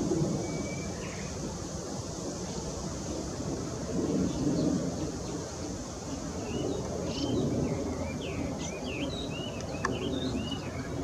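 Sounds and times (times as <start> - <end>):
songbird singing: 0.0 - 11.0
wind rumbling on microphone: 0.0 - 11.0.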